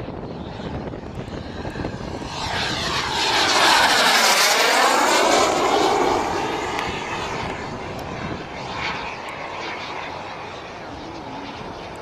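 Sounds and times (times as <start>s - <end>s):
model jet turbine flyby: 0.0s - 12.0s.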